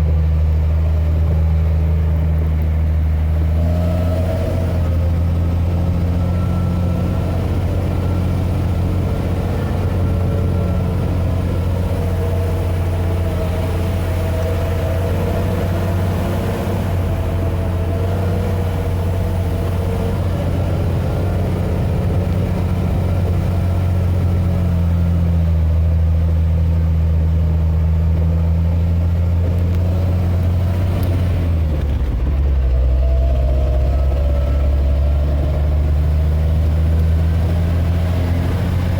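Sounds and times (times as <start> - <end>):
diesel truck engine droning: 0.0 - 38.9.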